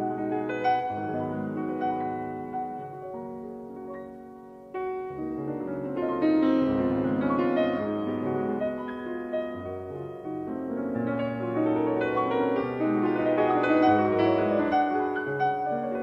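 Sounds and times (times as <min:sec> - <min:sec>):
solo piano waltz: 0:00.0 - 0:16.0.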